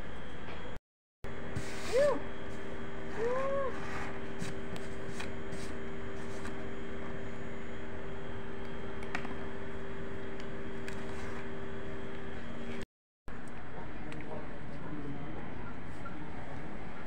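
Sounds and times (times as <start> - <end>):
steady two-pitch hum: 0.0 - 17.0.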